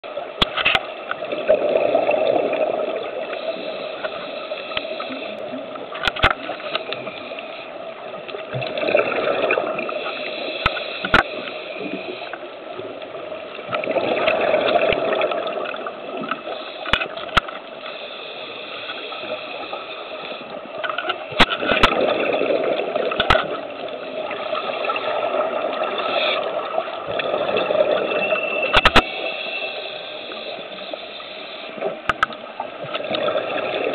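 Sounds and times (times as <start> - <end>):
steady hiss: 1.9 - 8.5, 9.5 - 13.7, 15.6 - 21.7, 22.6 - 27.1, 27.7 - 33.6.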